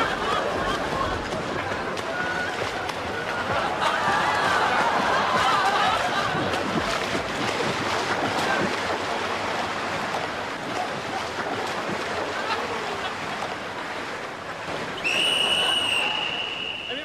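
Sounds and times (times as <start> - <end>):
water splashing from swimming: 0.0 - 17.0.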